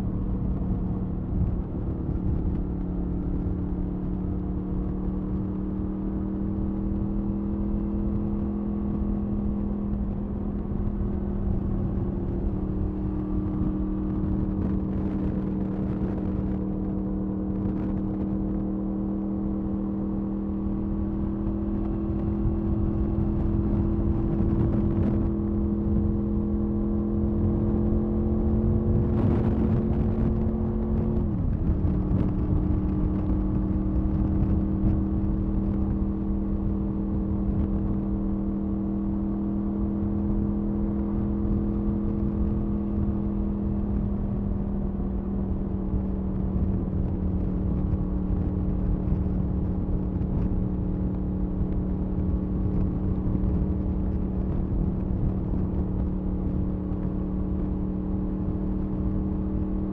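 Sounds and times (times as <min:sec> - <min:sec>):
low wind rumble on microphone: 0:00.0 - 0:59.9
motorcycle engine exhaust note: 0:00.0 - 0:59.9.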